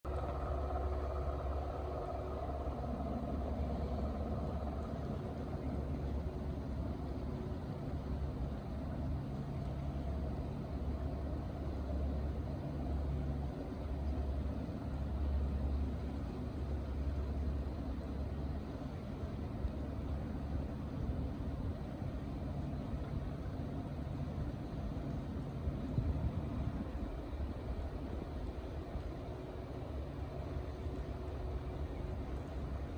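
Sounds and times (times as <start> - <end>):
low mechanical rumble: 0.0 - 32.9.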